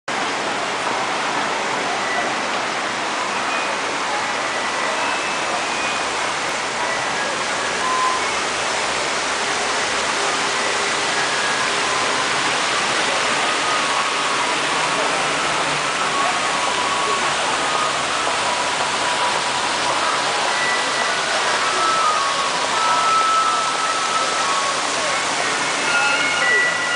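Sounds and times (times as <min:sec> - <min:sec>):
fountain water splashing: 0:00.1 - 0:26.9.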